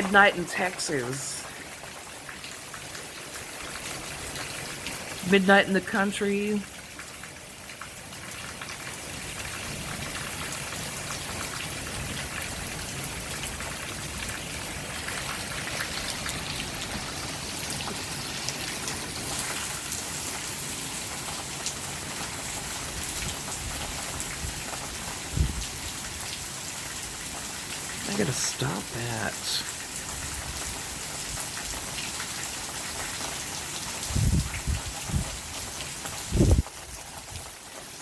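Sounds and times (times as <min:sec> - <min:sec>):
rain drops ticking: 0:00.0 - 0:38.0.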